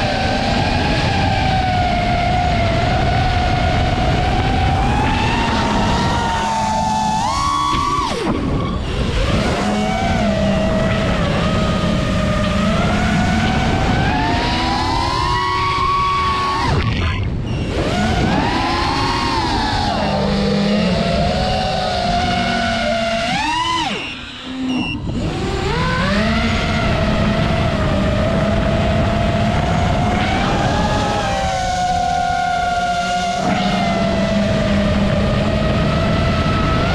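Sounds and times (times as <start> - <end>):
quadcopter motors whining: 0.0 - 36.9
wind rumble on microphone: 0.0 - 36.9.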